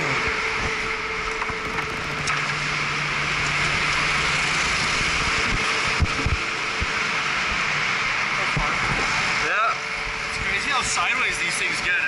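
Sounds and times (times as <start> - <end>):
go-kart engine hum: 0.0 - 11.5.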